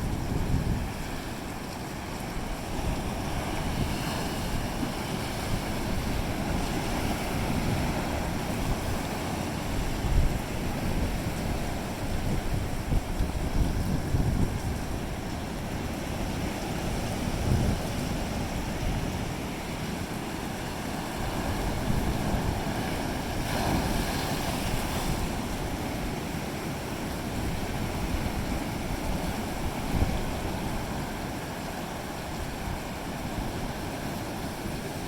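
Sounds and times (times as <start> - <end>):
ocean waves breaking: 0.0 - 35.0
wind buffeting microphone: 0.0 - 35.0.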